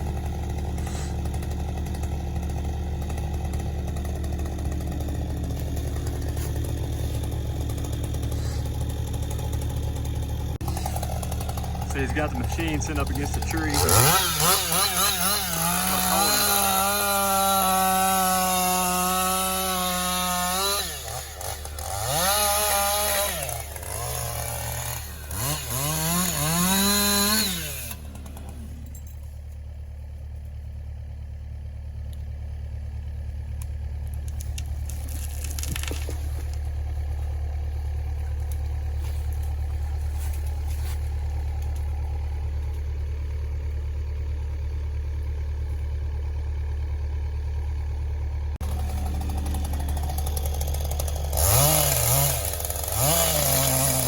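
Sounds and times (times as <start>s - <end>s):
chainsaw cutting wood: 0.0s - 29.6s, 32.0s - 47.8s, 48.6s - 54.0s
diesel engine idling: 0.0s - 54.0s.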